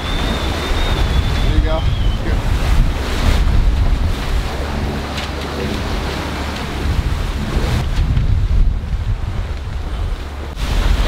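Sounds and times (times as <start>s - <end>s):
sea rushing: 0.0s - 11.0s
wind buffeting microphone: 0.0s - 11.0s.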